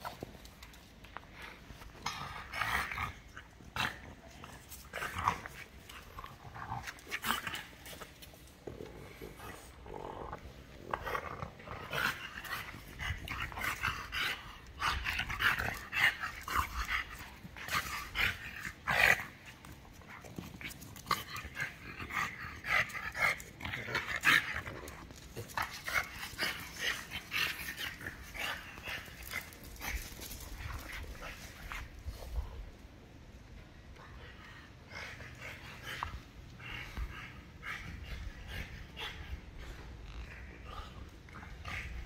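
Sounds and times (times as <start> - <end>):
dogs playing noises: 0.0 - 42.0.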